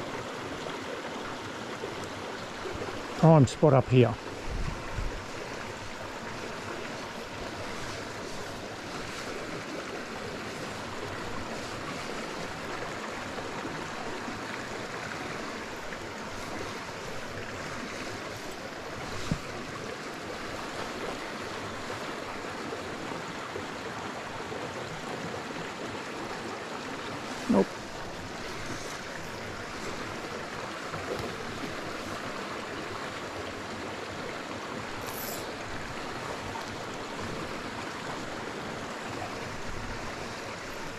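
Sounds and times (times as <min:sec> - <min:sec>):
creek running over rocks: 0:00.0 - 0:40.9.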